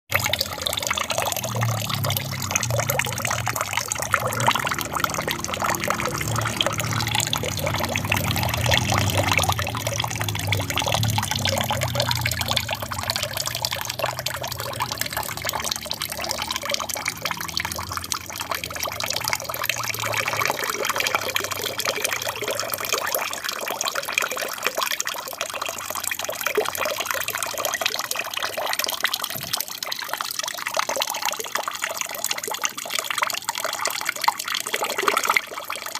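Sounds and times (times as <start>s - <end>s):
water trickling down small waterfall: 0.1s - 35.9s.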